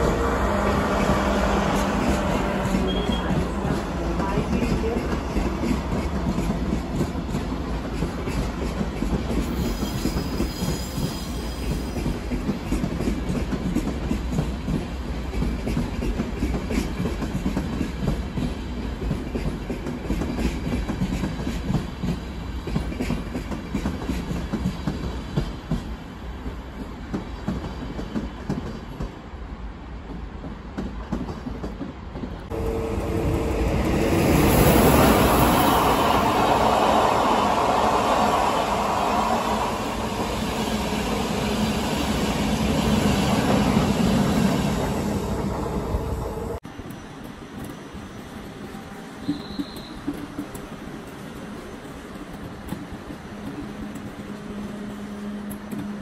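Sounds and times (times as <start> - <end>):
second train approaching: 0.0 - 56.0
train rumbling past: 0.0 - 56.0.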